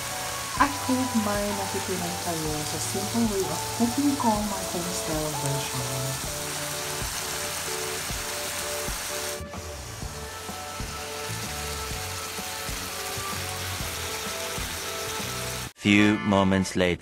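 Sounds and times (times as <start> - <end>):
food sizzling in a wok: 0.0 - 15.7
background music: 0.0 - 17.0.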